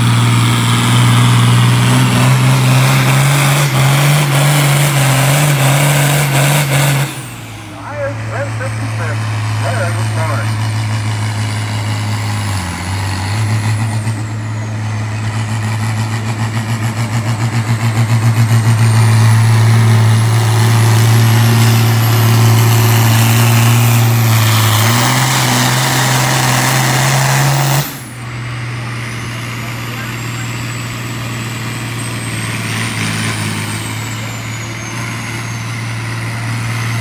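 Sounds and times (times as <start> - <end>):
diesel tractor engine under load: 0.0 - 37.0.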